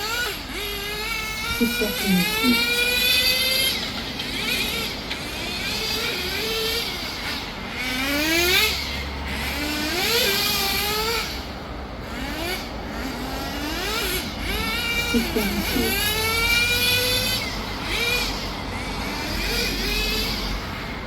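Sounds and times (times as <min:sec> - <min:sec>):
small nitro engine revving: 0:00.0 - 0:21.0.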